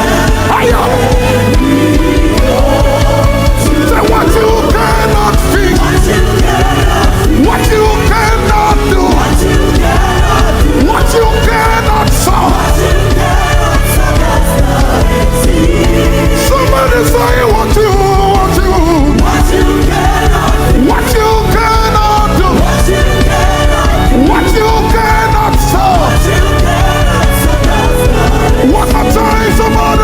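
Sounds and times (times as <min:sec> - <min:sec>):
live gospel band: 0:00.0 - 0:30.0
voices singing: 0:00.0 - 0:30.0.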